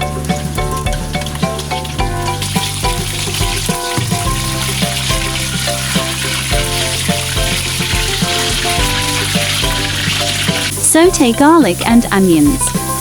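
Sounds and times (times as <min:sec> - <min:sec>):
background music with steady beat: 0:00.0 - 0:13.0
chicken sizzling in hot oil: 0:00.0 - 0:13.0.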